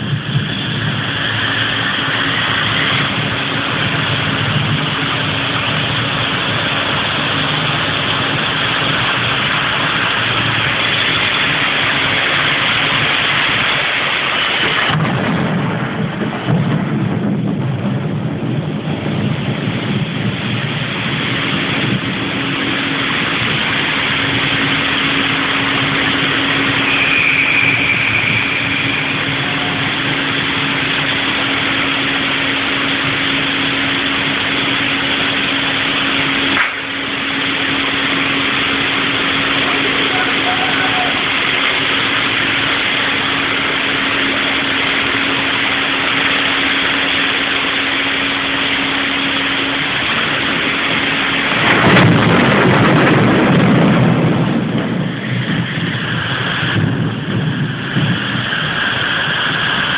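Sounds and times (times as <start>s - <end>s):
heavy rain pouring: 0.0s - 59.9s
low rumble: 0.0s - 59.9s.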